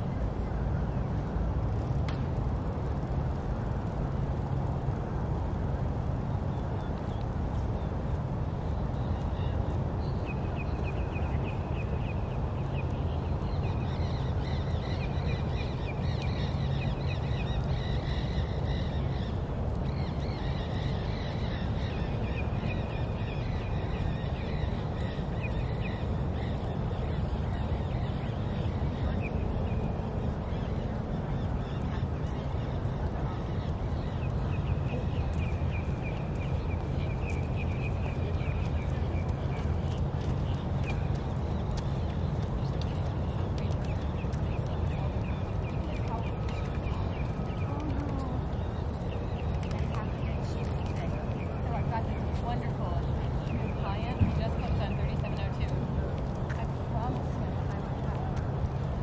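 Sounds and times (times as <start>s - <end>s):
low outdoor rumble: 0.0s - 59.0s
birds chattering calls: 9.0s - 59.0s.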